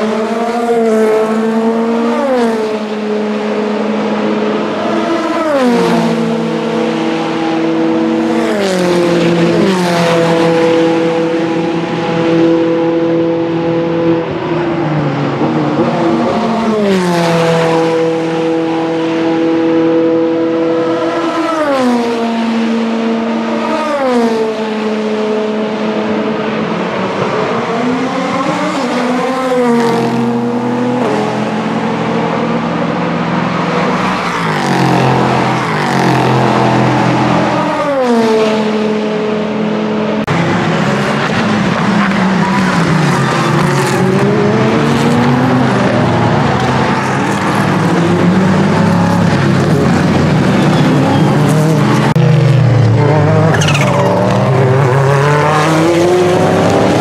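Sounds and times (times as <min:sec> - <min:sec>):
race car engine through a corner: 0:00.0 - 0:57.0
race cars passing at full speed: 0:00.0 - 0:57.0.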